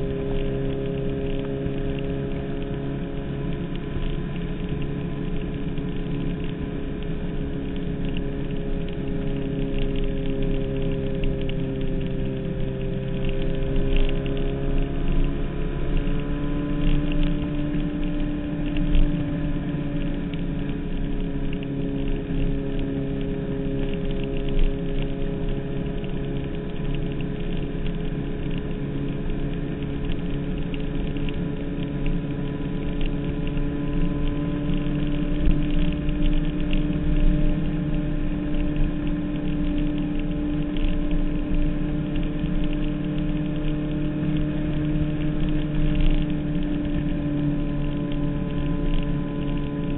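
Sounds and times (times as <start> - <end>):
motorcycle engine cruising: 0.0 - 49.9.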